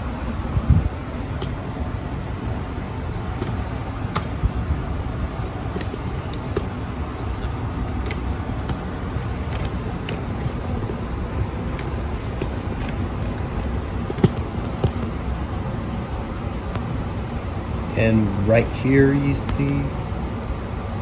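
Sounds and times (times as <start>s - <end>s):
ceiling fan motor hum: 0.0s - 21.0s.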